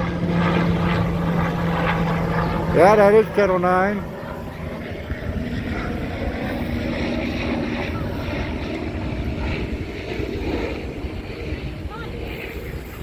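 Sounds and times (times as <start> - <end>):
faint engine hum: 0.0 - 13.0
wind buffeting microphone: 0.0 - 13.0.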